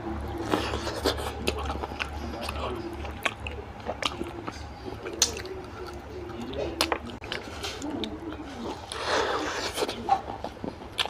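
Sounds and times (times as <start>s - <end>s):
person chewing with wet squishing: 0.1s - 11.0s.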